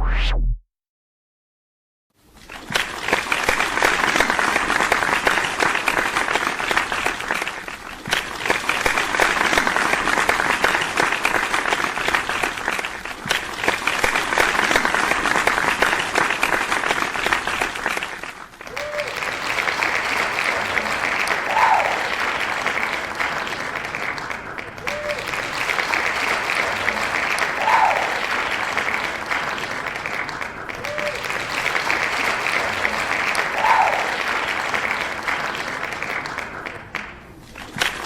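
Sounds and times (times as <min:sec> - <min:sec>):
crowd applauding: 0:02.4 - 0:38.0.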